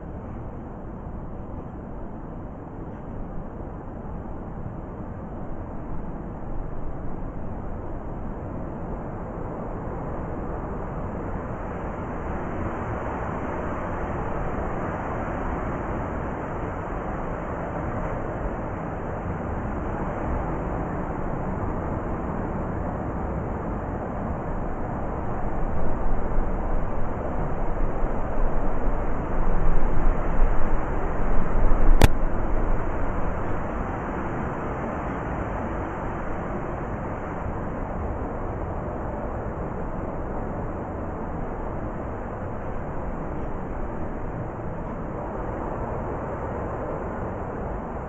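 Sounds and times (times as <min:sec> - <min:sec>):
heavy blizzard wind: 0:00.0 - 0:48.0.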